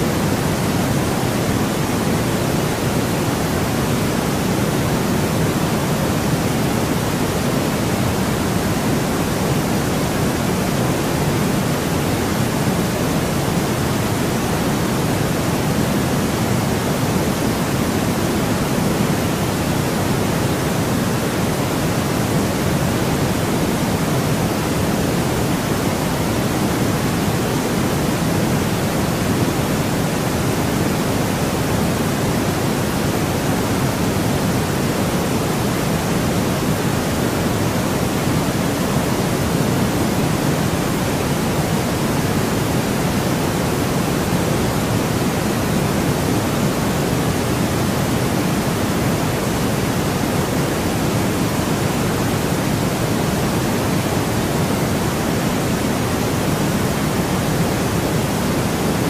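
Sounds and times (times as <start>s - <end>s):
deep white noise: 0.0s - 59.0s.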